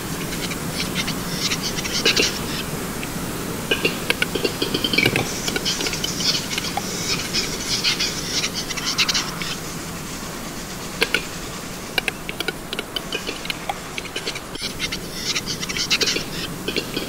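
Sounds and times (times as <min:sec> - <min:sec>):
grouse display song clicks: 0:00.1 - 0:17.0.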